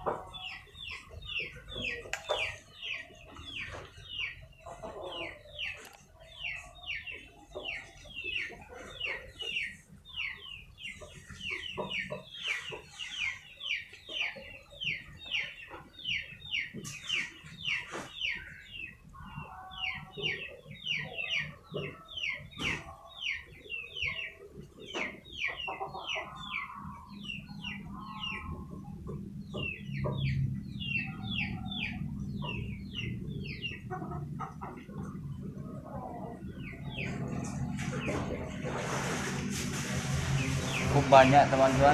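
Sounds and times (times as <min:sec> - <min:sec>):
chicken calls: 0:00.0 - 0:41.9
chicks peeping: 0:00.0 - 0:41.9.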